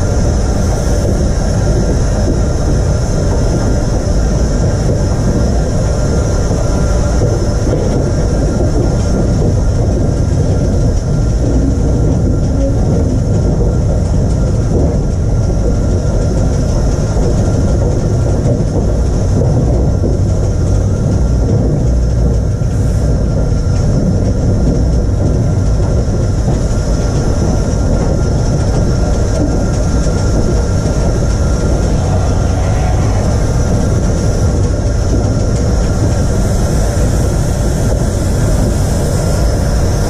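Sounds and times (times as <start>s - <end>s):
steam locomotive rumbling: 0.0s - 40.0s.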